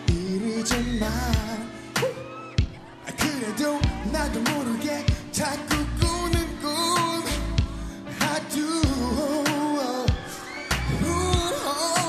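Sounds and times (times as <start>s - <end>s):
backing track: 0.0s - 12.0s
man singing pop ballad: 0.0s - 12.0s.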